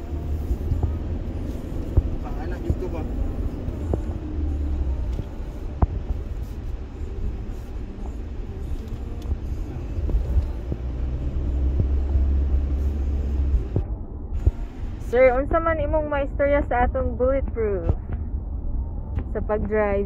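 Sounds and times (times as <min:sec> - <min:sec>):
vehicle rumble inside cabin: 0:00.0 - 0:20.0.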